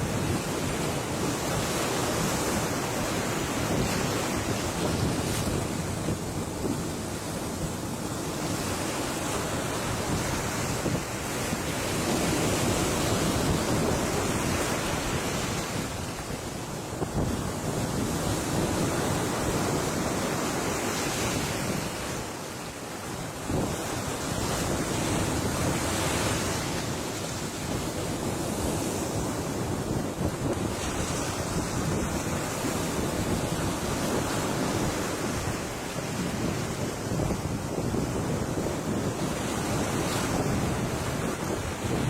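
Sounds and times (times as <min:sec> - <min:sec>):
ocean waves breaking: 0:00.0 - 0:42.0.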